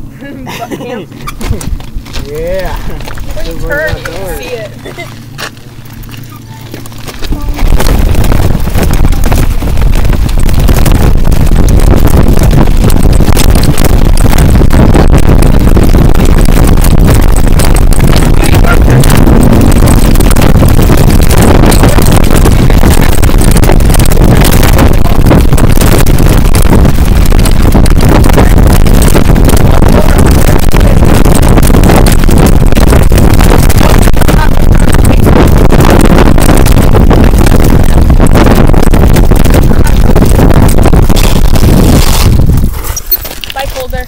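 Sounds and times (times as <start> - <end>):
trailer wheels rumbling and rattling: 0.0 - 44.0.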